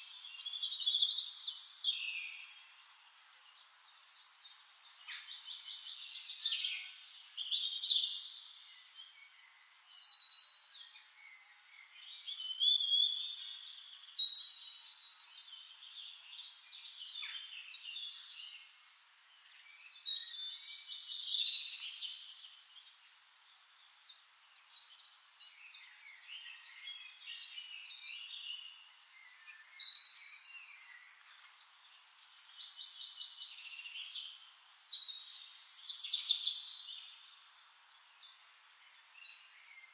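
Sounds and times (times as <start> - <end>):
wild birds singing: 0.0 - 39.9.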